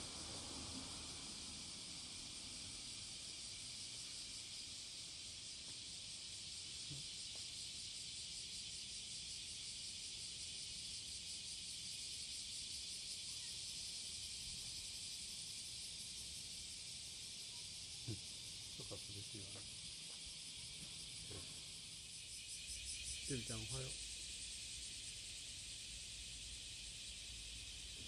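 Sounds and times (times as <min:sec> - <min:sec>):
cicadas buzzing: 0:00.0 - 0:28.0.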